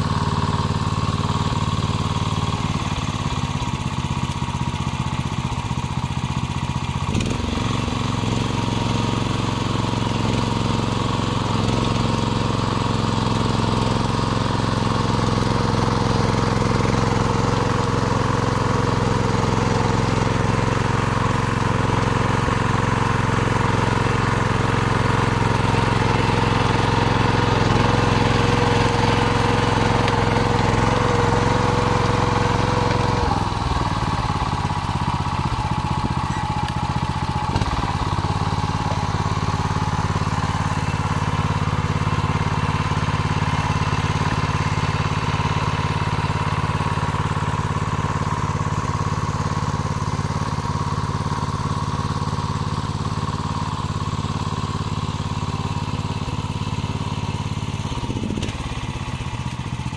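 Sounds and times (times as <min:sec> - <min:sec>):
rotary tiller through soil: 0:00.0 - 0:59.9
small petrol engine running: 0:00.0 - 0:59.9.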